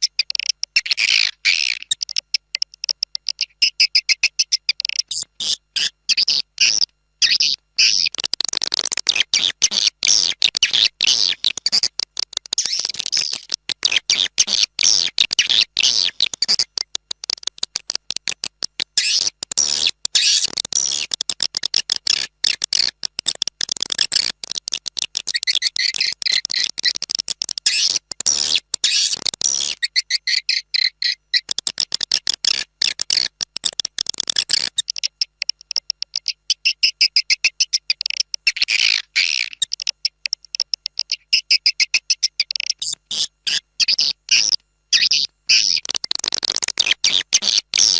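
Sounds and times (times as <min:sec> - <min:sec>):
rapid high-pitched bird chirps: 0:00.0 - 0:47.9.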